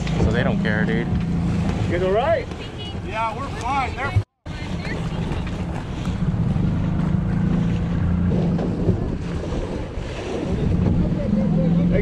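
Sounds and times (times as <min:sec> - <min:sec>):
outboard motor running: 0:00.0 - 0:12.0
water rushing past hull: 0:00.0 - 0:12.0
wind buffeting microphone: 0:00.0 - 0:12.0.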